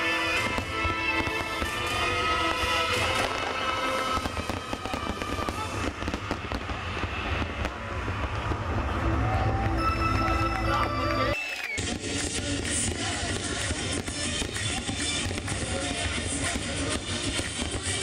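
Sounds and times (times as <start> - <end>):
music playing: 0.0 - 5.8, 8.9 - 18.0
fireworks bursting: 0.0 - 10.3, 11.4 - 18.0.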